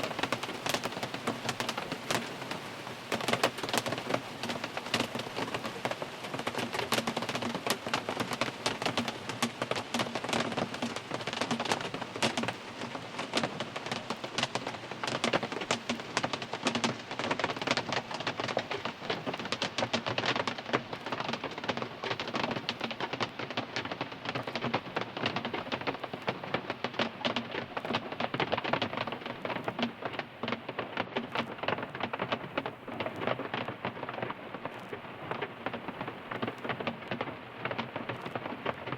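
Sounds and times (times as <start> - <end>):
rain drumming on car roof: 0.0 - 38.9.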